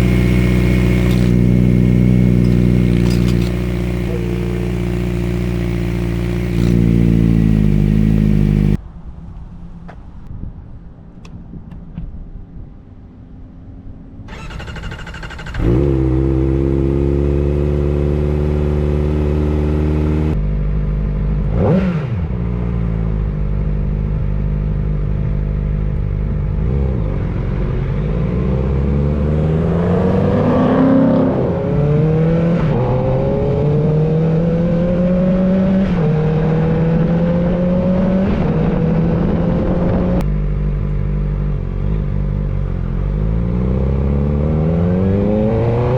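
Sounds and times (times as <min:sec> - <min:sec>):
motorcycle engine revving: 0:00.0 - 0:08.8, 0:14.3 - 0:45.9.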